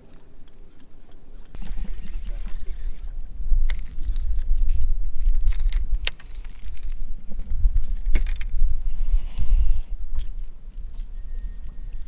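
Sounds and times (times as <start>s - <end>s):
wind on microphone: 1.5s - 12.0s.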